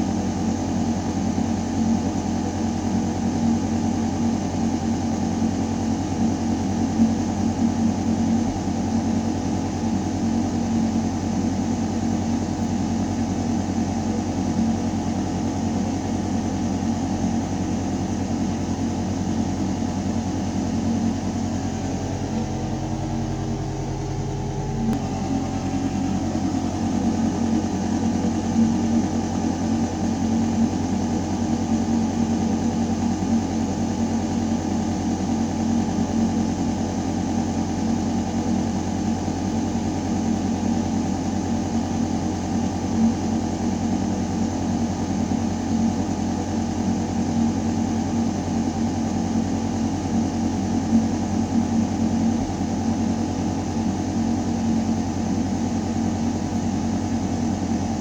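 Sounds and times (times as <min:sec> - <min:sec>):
ventilation system hum: 0:00.0 - 0:58.0.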